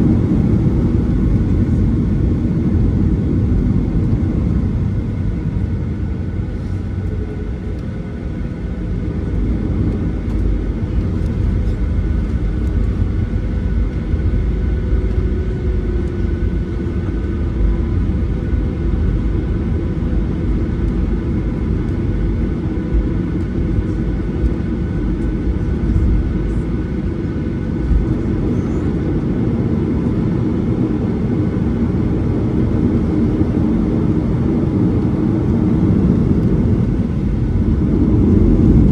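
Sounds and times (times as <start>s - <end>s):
aircraft cabin rumble: 0.0s - 38.9s
faint steady whine: 0.0s - 38.9s.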